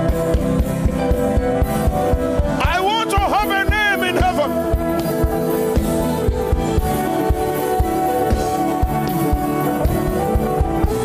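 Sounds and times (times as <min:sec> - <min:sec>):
held chords: 0:00.0 - 0:11.0
steady drumbeat: 0:00.0 - 0:11.0.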